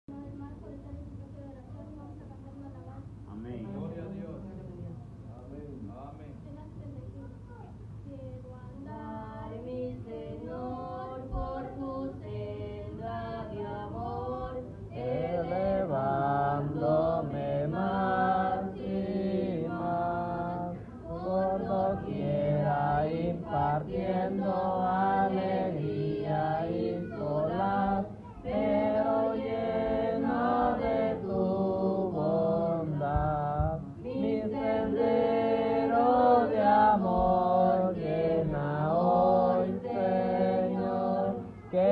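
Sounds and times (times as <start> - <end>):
girl and boy singing a hymn: 7.8 - 41.9.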